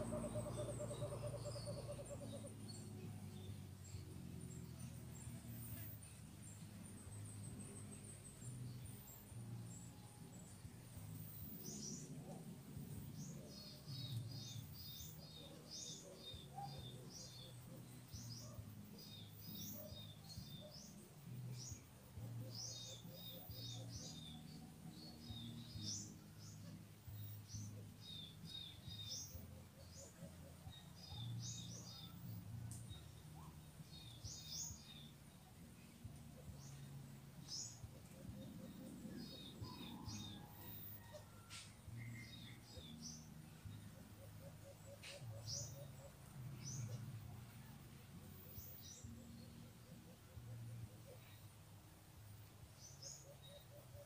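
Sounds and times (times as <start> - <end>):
low steady hum: 0.0 - 54.0
small birds chirping: 0.0 - 54.0.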